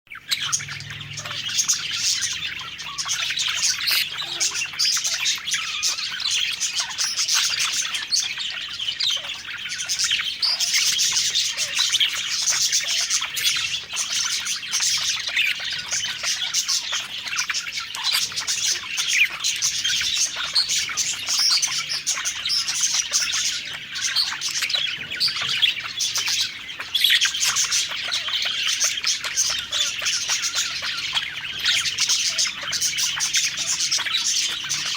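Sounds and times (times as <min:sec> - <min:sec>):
budgerigars chirping and warbling: 0:00.1 - 0:34.9.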